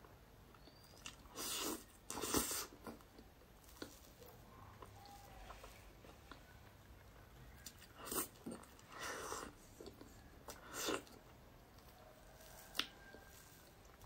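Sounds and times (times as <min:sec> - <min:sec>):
wet chewing sounds: 0:00.6 - 0:14.0.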